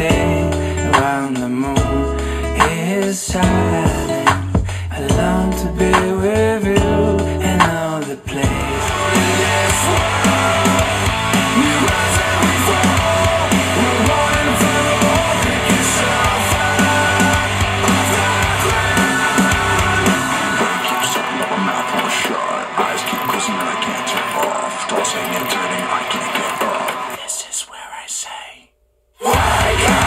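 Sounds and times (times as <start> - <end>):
death metal song over speakers: 0.0 - 4.3, 5.0 - 27.1, 29.2 - 30.0.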